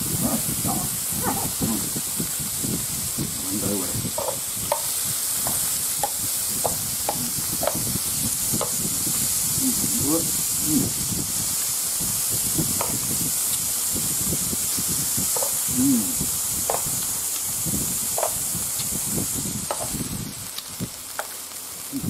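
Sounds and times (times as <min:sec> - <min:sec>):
meat sizzling on a grill: 0:00.0 - 0:22.0.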